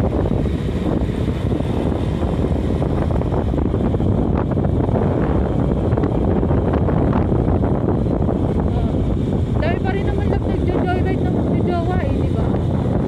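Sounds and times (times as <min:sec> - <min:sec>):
vehicle engine and road noise: 0:00.0 - 0:13.0
wind rush on microphone: 0:00.0 - 0:13.0.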